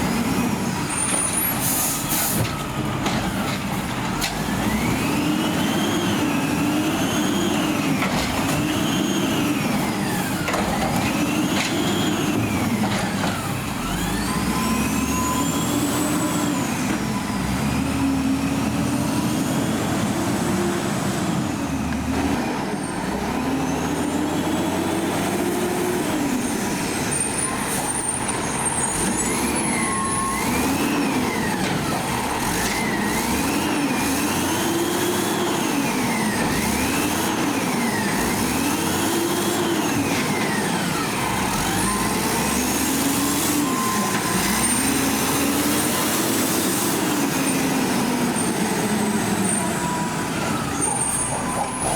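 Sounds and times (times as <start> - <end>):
diesel truck engine revving: 0.0 - 51.9.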